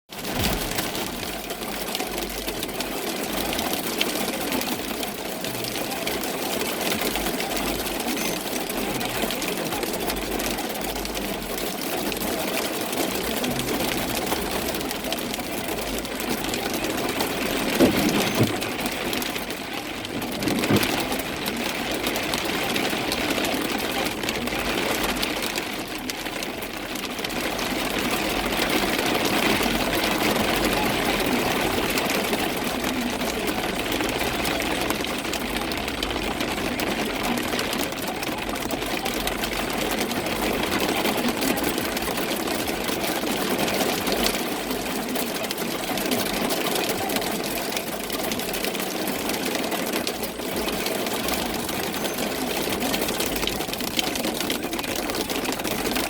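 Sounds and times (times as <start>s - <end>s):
steady rain falling: 0.1s - 56.0s.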